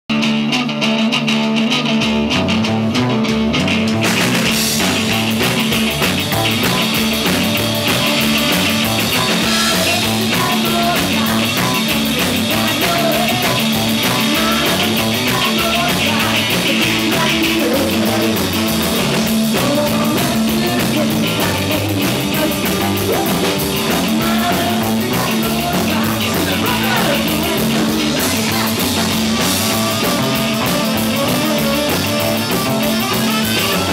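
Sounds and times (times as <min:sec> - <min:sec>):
bass guitar: 0:00.0 - 0:33.9
rock band playing live: 0:00.1 - 0:33.9
drums with cymbals: 0:03.5 - 0:33.9.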